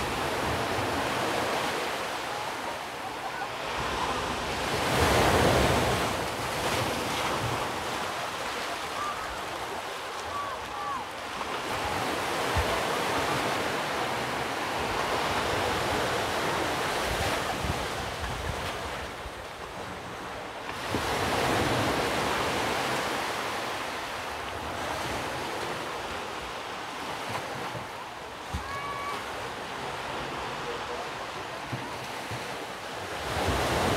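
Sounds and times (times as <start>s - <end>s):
sea surf washing: 0.0s - 33.9s.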